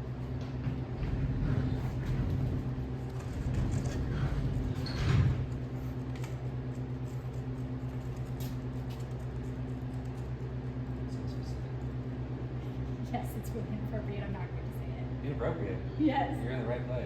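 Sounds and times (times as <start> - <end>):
motor humming with pulses: 0.0 - 17.0.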